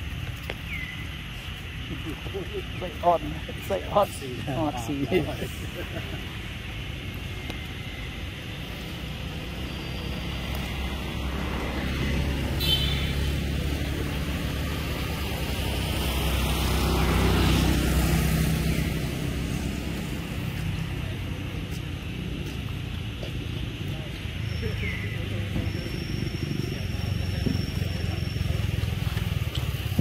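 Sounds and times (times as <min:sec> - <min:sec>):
passing engine rumble: 0:01.8 - 0:30.0.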